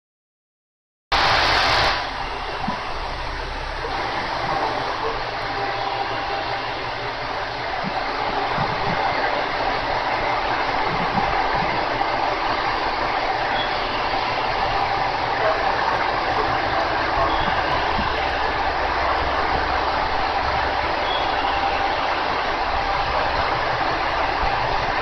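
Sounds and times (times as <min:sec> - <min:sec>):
diesel train engines running: 0:01.1 - 0:25.0.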